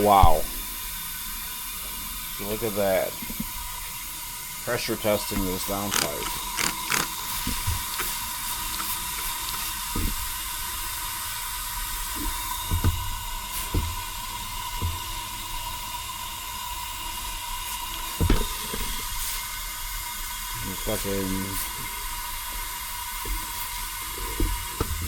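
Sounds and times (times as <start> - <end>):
air hissing from leaks: 0.0 - 25.0.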